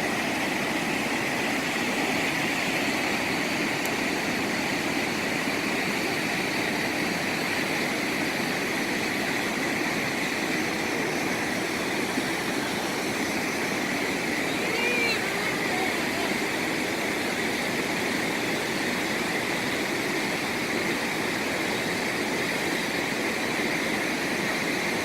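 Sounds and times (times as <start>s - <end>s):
waterfall pouring: 0.0s - 25.0s.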